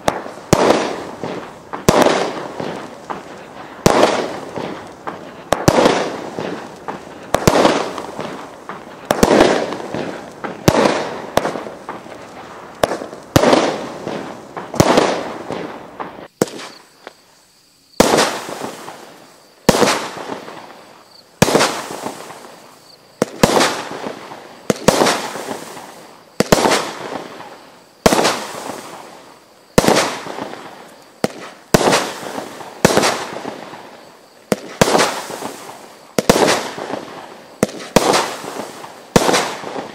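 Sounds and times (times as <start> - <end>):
fireworks bangs: 0.0 - 17.3, 17.9 - 39.9.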